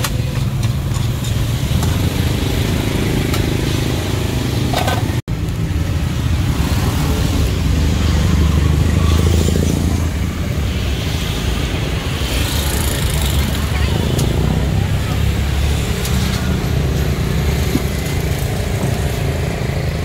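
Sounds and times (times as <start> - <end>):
traffic engine rumble: 0.0 - 20.0.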